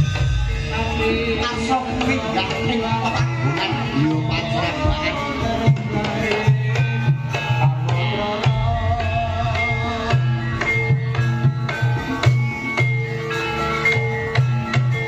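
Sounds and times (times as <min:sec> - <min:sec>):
gamelan instruments melody: 0:00.0 - 0:15.0.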